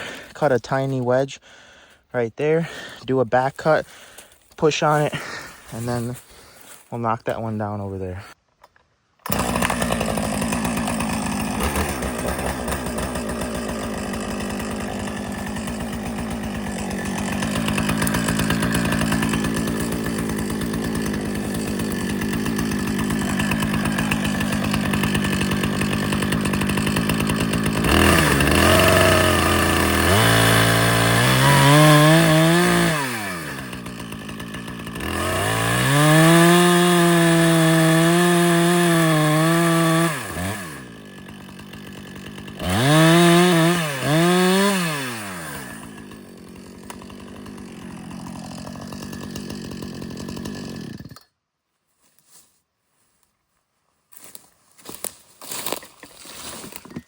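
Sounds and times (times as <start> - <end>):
chainsaw revving: 0.0 - 8.0, 9.2 - 51.3
chainsaw cutting wood: 0.0 - 51.4, 54.2 - 57.0.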